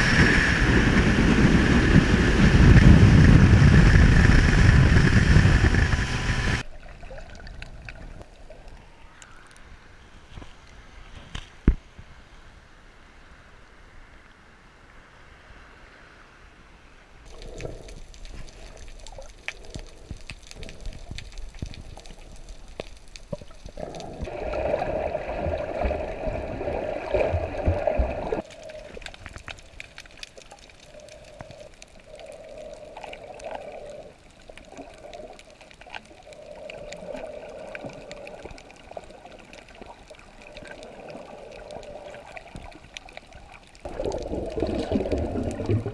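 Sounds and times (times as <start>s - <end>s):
water sloshing and gurgling: 0.4s - 8.8s, 17.3s - 45.9s.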